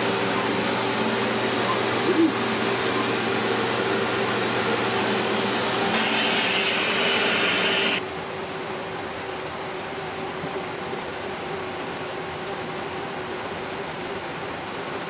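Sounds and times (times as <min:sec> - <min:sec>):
workshop machine whooshing and humming: 0:00.0 - 0:15.0.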